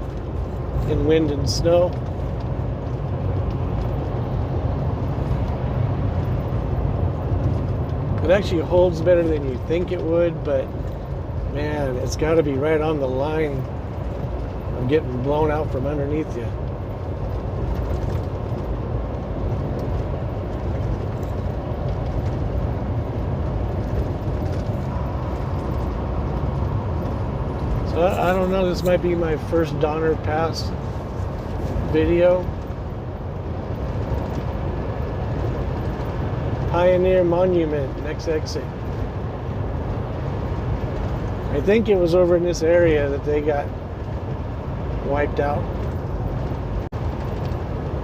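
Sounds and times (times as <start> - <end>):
road noise: 0.0 - 48.0
truck diesel engine rumble: 0.0 - 48.0.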